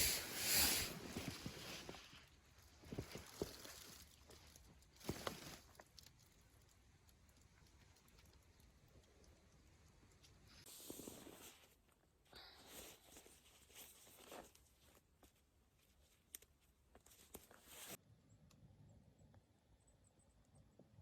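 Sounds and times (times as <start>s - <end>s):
faint rustling and handling: 0.0s - 18.0s.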